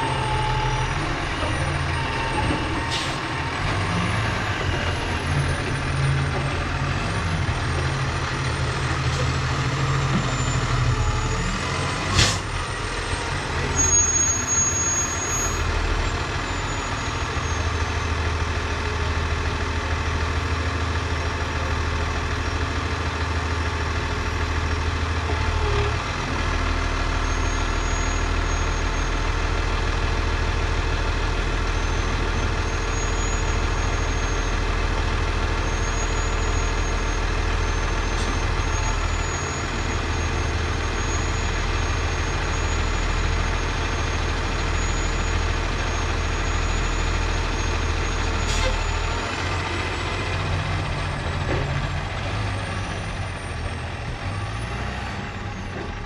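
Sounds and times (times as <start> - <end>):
heavy vehicle engine running: 0.0 - 56.0.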